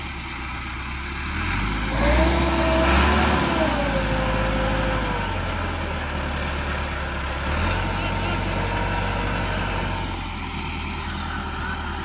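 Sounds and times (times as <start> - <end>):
heavy machinery engine revving: 1.2 - 12.0.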